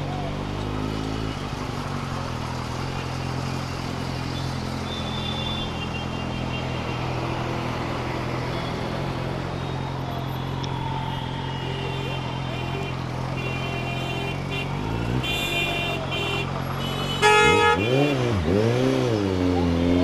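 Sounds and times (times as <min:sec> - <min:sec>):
road and traffic noise: 0:00.0 - 0:20.0.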